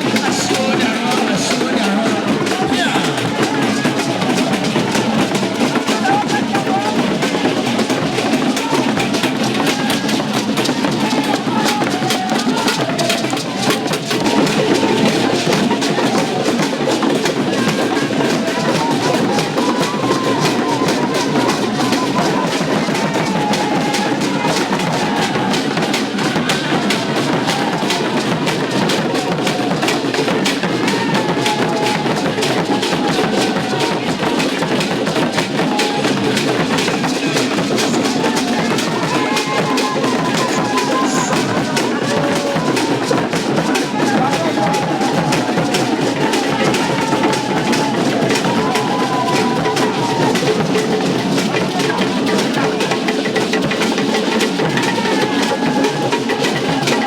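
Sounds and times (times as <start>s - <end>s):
fast dense festival drumming: 0.0s - 57.0s.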